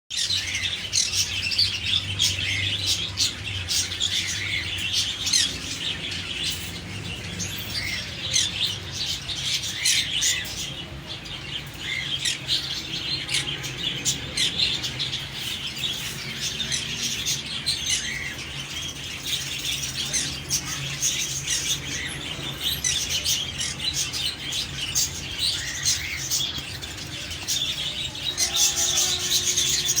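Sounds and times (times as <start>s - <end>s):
parrots chirping: 0.1s - 30.0s.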